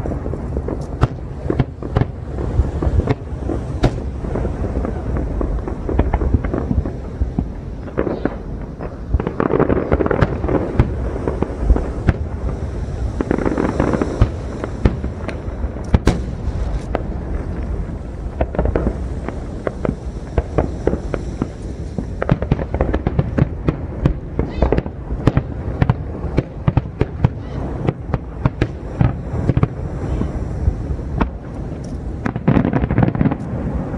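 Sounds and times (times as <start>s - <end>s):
fireworks bursting and crackling: 0.0s - 33.9s.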